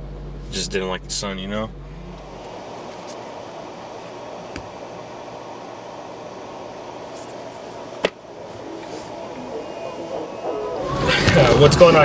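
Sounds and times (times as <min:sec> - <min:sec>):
ventilation hum: 0:00.0 - 0:12.0.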